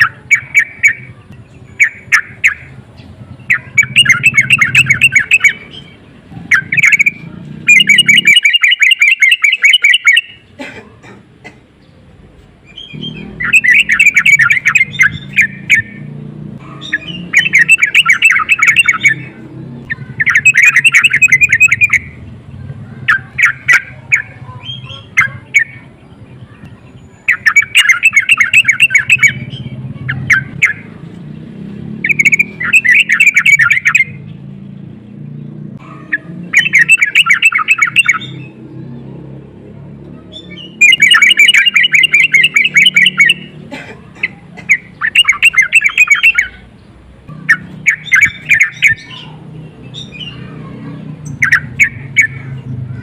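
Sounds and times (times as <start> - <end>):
bird chattering song: 0.0 - 10.6, 11.7 - 39.4, 40.1 - 53.0.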